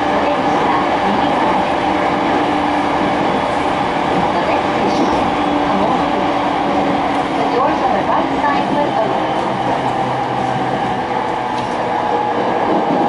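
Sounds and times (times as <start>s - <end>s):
train motor hum: 0.0s - 13.0s
wheels rumbling on rail: 0.0s - 13.0s.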